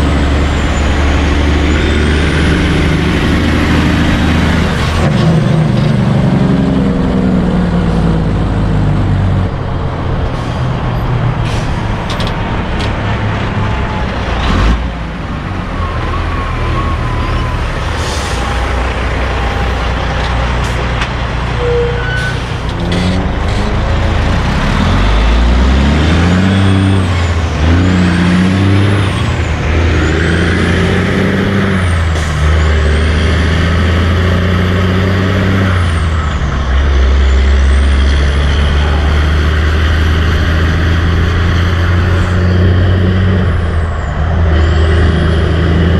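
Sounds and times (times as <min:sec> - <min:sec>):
diesel truck engine accelerating: 0:00.0 - 0:45.9
road traffic: 0:00.0 - 0:45.9.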